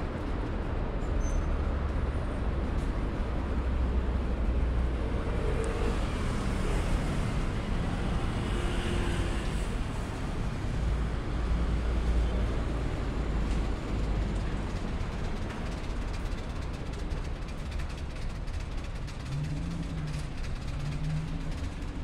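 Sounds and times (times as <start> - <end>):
road traffic rumble: 0.0 - 22.0
car engines running: 0.1 - 22.0.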